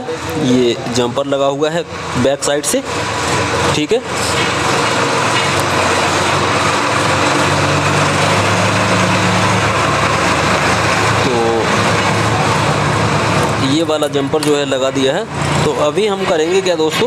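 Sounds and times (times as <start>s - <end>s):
steady machine noise with hum: 0.0s - 17.0s.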